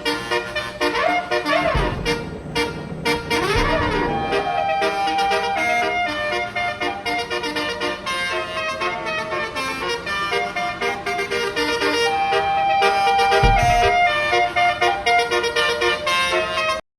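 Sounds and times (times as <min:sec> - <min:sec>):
multi-tone bus horn melody: 0:00.0 - 0:16.8.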